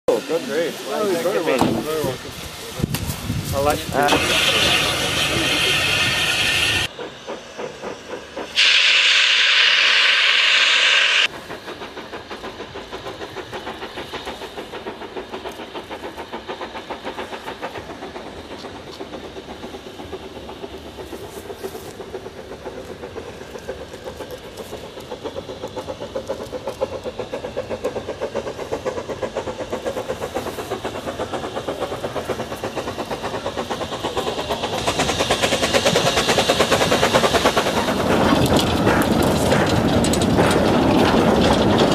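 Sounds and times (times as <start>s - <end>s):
steam hissing: 0.1s - 41.9s
steam locomotive exhaust beats: 0.1s - 41.9s.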